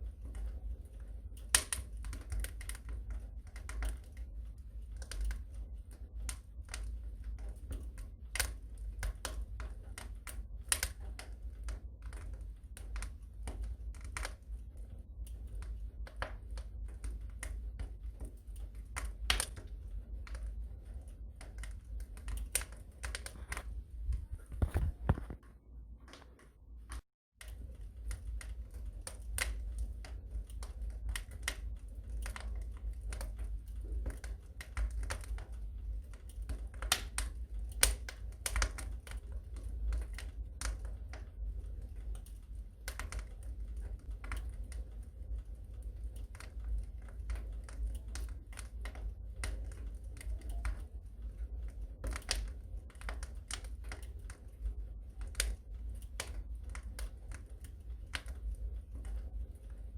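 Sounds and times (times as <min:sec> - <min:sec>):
steady low rumble: 0:00.0 - 0:59.9
wood fire crackling and popping: 0:00.0 - 0:59.9.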